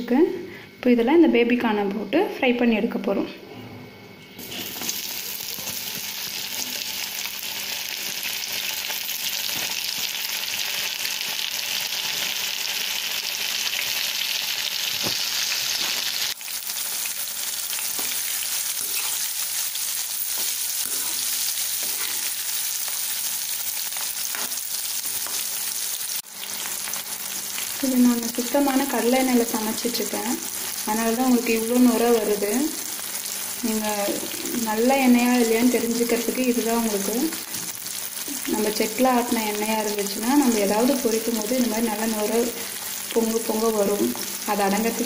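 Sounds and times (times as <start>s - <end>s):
food deep-frying in oil: 4.4s - 45.0s.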